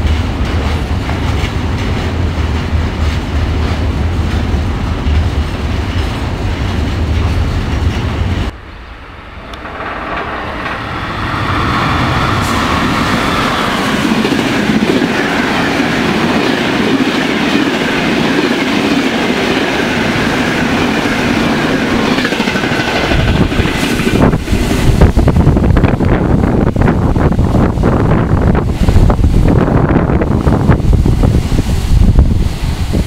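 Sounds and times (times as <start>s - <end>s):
passenger train passing at speed: 0.0s - 33.0s.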